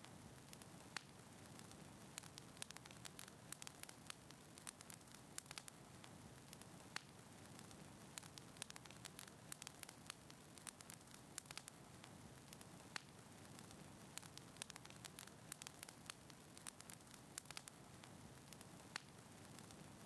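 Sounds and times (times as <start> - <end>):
steady low hiss: 0.0 - 20.0
wood fire crackling: 0.0 - 20.0.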